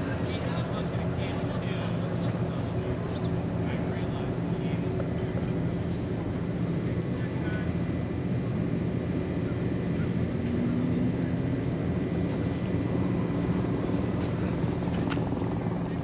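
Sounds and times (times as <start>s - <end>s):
aircraft engines droning: 0.0s - 16.0s.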